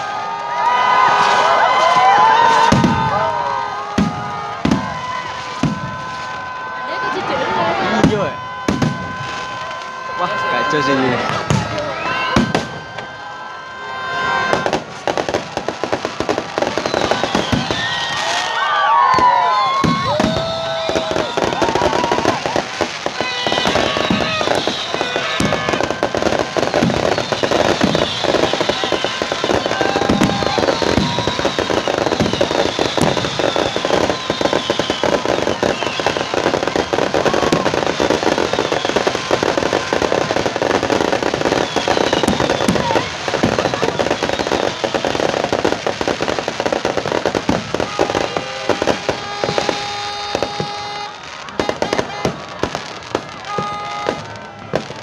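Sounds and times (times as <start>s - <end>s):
fireworks crackling and popping: 0.0s - 55.0s
fireworks whistling: 0.0s - 55.0s.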